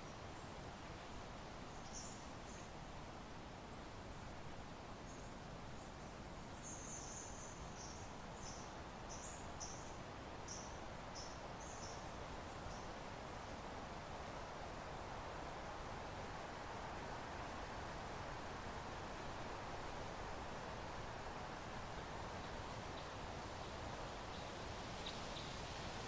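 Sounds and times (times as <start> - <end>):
soft wind noise: 0.0 - 26.0.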